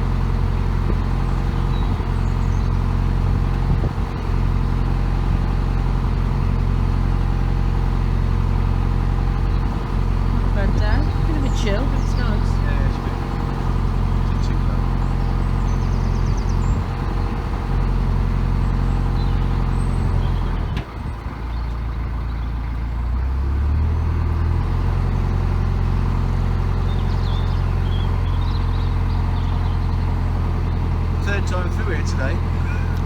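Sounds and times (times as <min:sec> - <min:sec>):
boat diesel engine running: 0:00.0 - 0:33.0.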